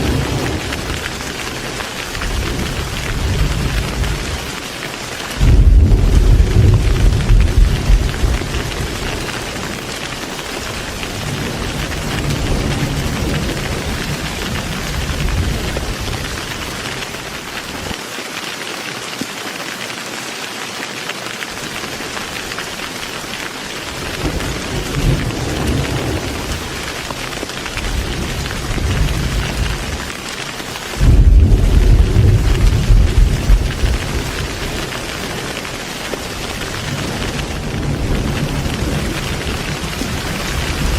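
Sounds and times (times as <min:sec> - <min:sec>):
thunder rumbling: 0:00.0 - 0:04.7, 0:05.3 - 0:17.9, 0:23.8 - 0:40.9
heavy rain: 0:00.0 - 0:40.9.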